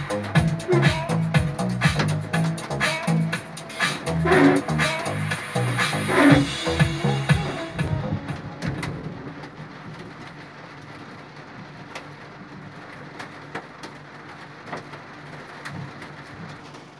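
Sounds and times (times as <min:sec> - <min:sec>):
rain falling: 0:00.0 - 0:16.9.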